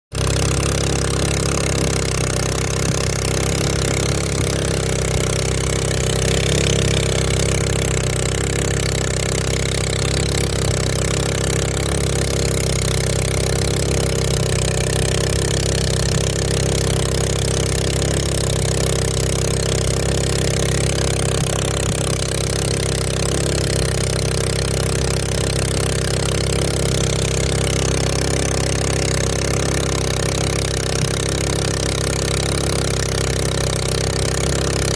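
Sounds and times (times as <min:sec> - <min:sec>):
boat engine running: 0:00.1 - 0:34.9.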